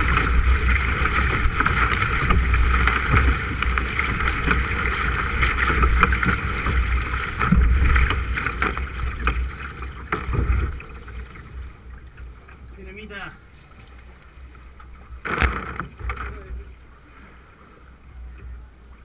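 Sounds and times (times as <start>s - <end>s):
paddle strokes splashing: 0.0s - 19.0s
water rushing along hull: 0.0s - 19.0s
wind rumbling on microphone: 0.0s - 19.0s.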